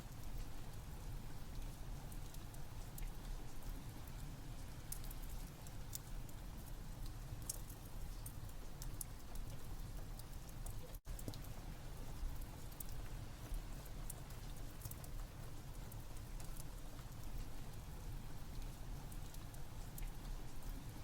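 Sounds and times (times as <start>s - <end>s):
steady rain: 0.0s - 21.0s
wood fire crackling: 0.0s - 21.0s.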